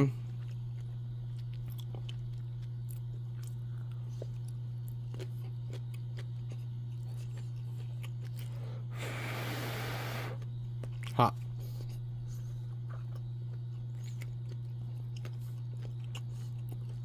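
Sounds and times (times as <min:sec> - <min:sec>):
steady low hum: 0:00.0 - 0:17.0
chewing: 0:00.2 - 0:09.0, 0:10.4 - 0:17.0.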